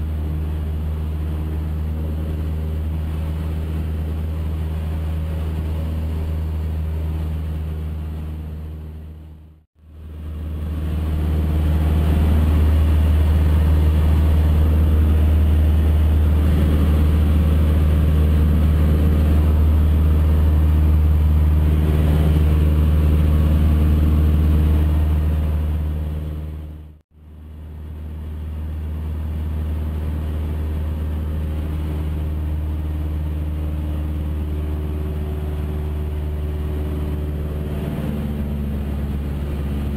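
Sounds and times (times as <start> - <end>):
small plane engine and propeller droning: 0.0 - 39.9.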